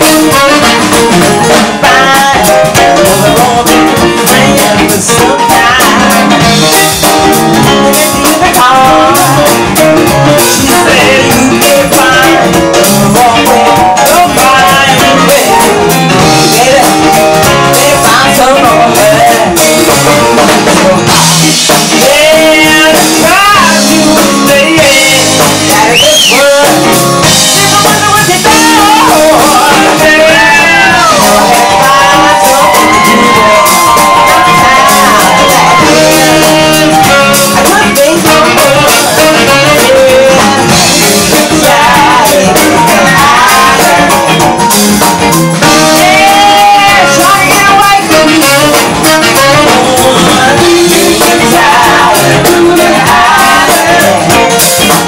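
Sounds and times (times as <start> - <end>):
funk band playing: 0.0 - 55.0
woman singing lead vocal: 0.2 - 6.8, 7.6 - 44.5, 45.6 - 54.6.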